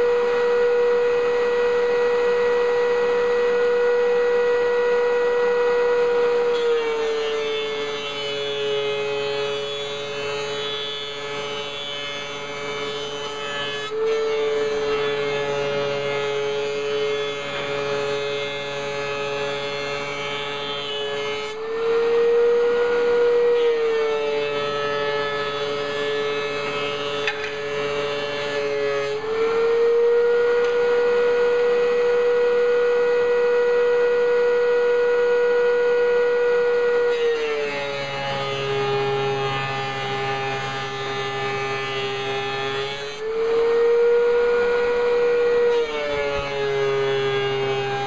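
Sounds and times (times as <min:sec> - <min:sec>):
thickness planer whining: 0:00.0 - 0:48.0.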